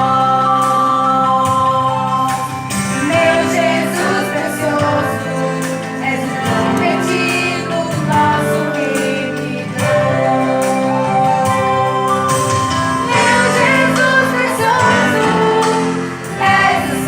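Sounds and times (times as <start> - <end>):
music with held chords: 0.0 - 17.0
person singing: 0.0 - 17.0.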